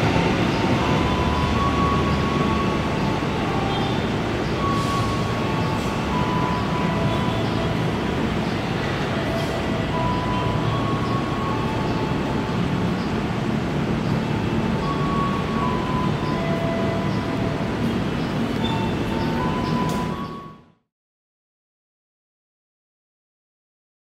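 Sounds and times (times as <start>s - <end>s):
train wheels rumbling: 0.0s - 20.5s.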